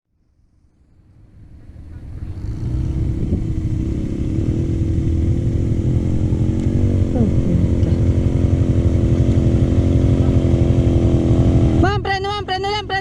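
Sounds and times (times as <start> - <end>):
atv engine running: 0.9 - 13.0.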